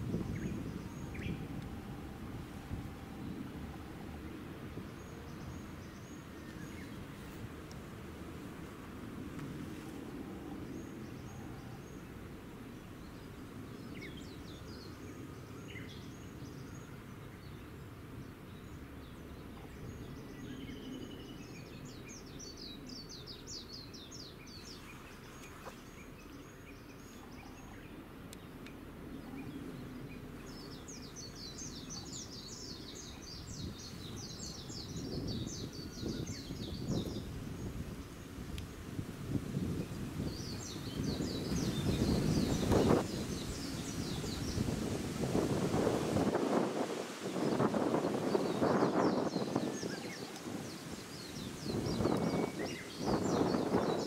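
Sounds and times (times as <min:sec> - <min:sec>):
low outdoor rumble: 0:00.0 - 0:46.0
small birds chirping: 0:00.0 - 0:54.0.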